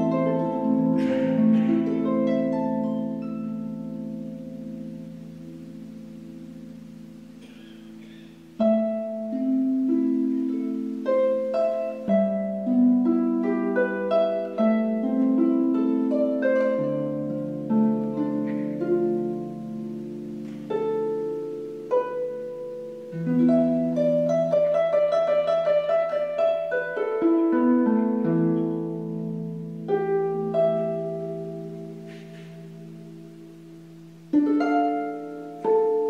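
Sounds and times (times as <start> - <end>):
harp playing plucked notes: 0.0 - 36.0.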